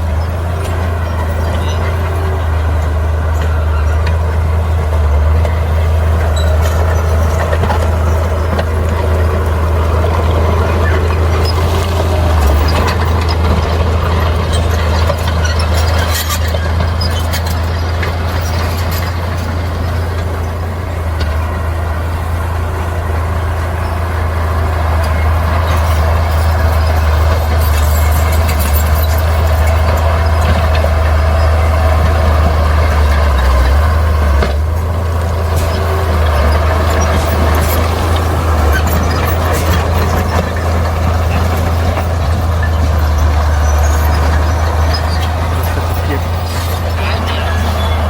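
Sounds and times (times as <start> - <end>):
diesel engine running under load: 0.0 - 48.0.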